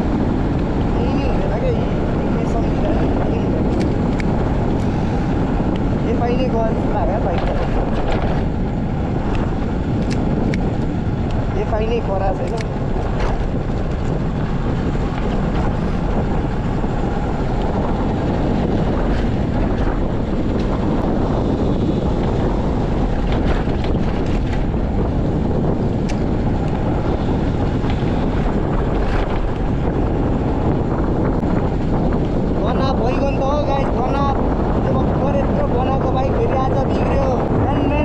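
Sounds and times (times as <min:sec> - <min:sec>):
motorcycle engine running: 0:00.0 - 0:32.9
wind rush on microphone: 0:00.0 - 0:38.0.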